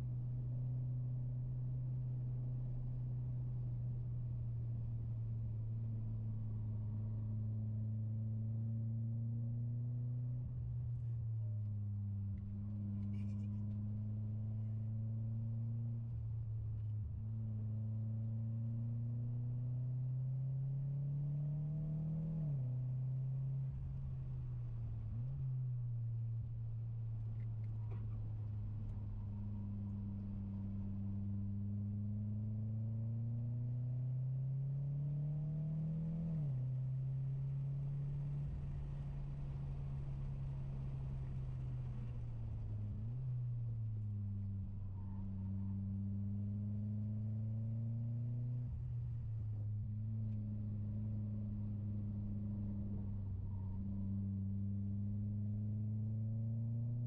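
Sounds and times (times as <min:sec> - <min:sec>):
car engine droning in cabin: 0:00.0 - 0:57.0.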